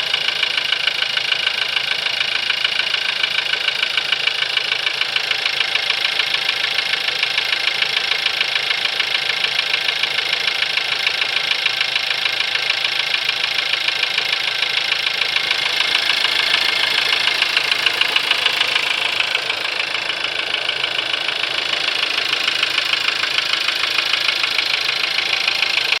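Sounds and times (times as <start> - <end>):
car engine idling: 0.0 - 26.0
fast regular engine knock: 0.0 - 26.0.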